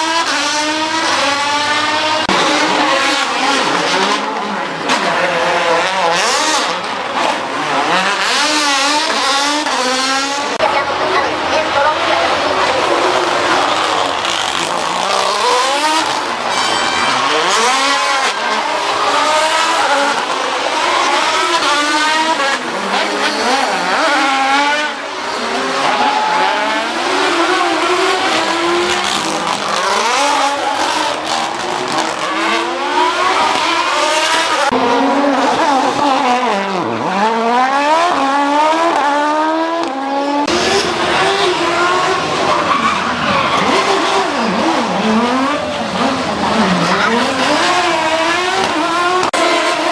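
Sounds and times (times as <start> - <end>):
rally cars at full throttle: 0.0 - 49.9.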